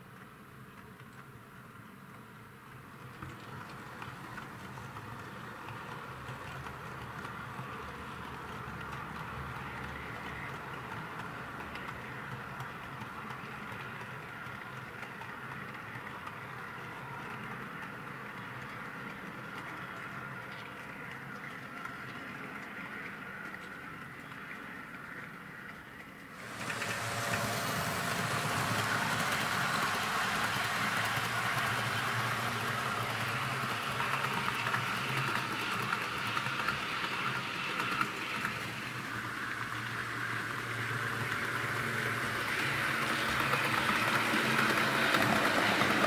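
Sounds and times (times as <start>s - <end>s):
model train wheels rolling on rail: 0.0s - 46.0s.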